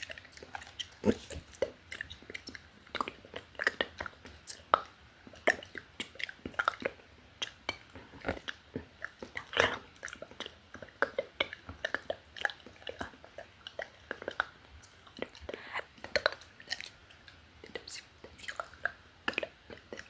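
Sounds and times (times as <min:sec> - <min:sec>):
tongue and lip clicks: 0:00.0 - 0:20.0
breathy mouth sound: 0:00.3 - 0:17.0, 0:17.6 - 0:20.0.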